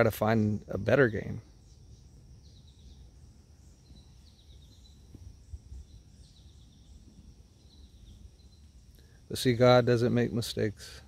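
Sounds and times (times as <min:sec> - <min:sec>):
birds chirping: 0:00.0 - 0:11.0
faint high-pitched hum: 0:00.0 - 0:11.0
outdoor background noise: 0:00.0 - 0:11.0.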